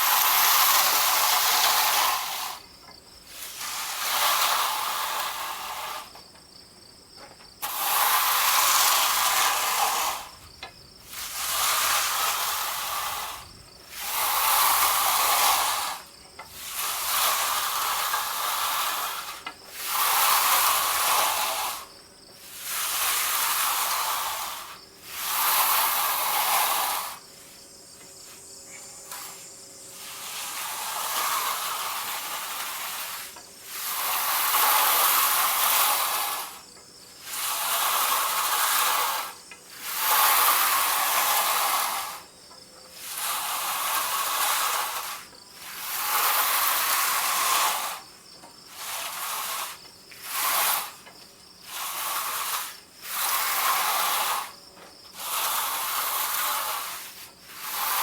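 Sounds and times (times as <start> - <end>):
tool swishing across concrete: 0.0 - 6.2, 7.6 - 58.0.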